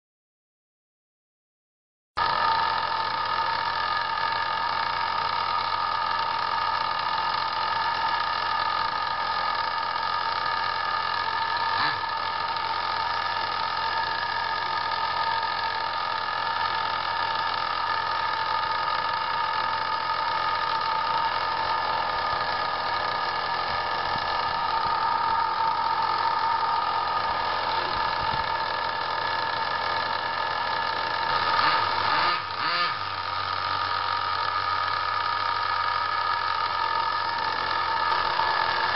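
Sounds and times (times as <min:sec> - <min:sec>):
electric motor whine: 0:02.2 - 0:38.9.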